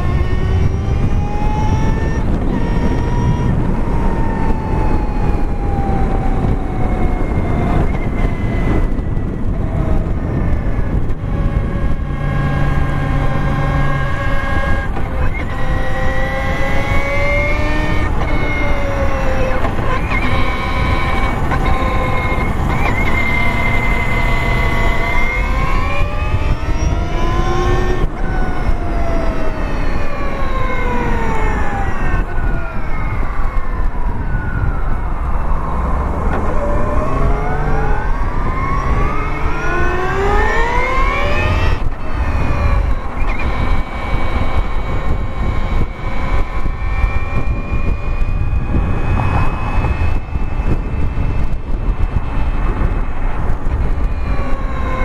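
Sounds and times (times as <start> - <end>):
electric motorcycle motor whining: 0.0 - 55.0
wind rush on microphone: 0.0 - 55.0.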